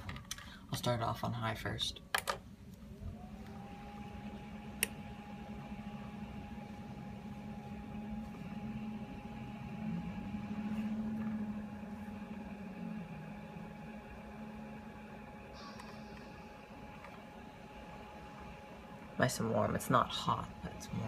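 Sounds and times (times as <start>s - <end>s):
space heater blower whine: 0.0s - 21.0s.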